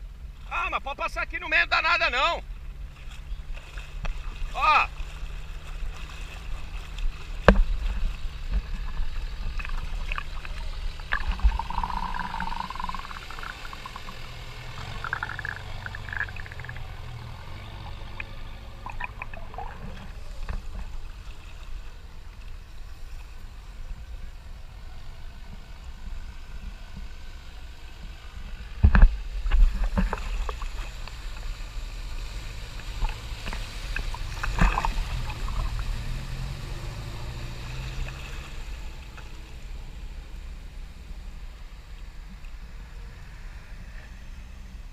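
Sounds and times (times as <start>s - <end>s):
water surging and splashing: 1.8s - 43.8s
car engine running: 2.2s - 42.6s.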